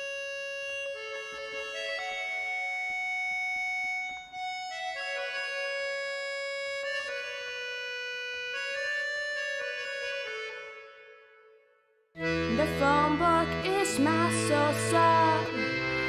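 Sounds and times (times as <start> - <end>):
accordion playing slow chords: 0.0 - 16.0.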